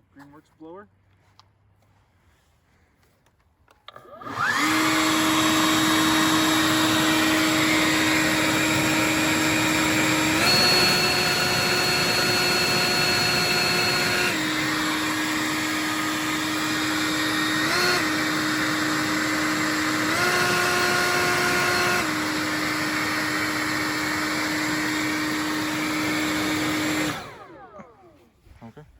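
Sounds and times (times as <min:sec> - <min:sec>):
leaf blower whining: 0:03.9 - 0:28.8.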